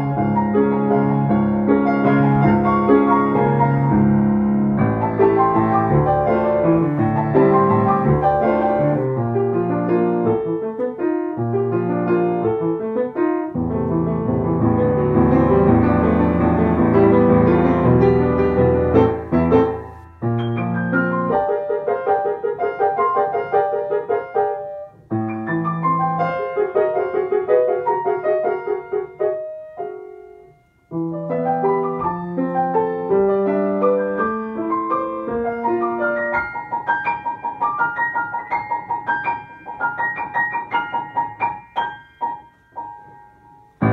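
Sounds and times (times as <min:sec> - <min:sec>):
lively solo piano piece: 0:00.0 - 0:43.9.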